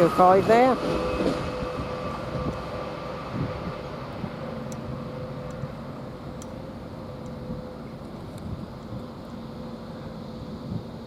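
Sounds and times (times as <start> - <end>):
electric train rumbling with whine: 0.0 - 11.0.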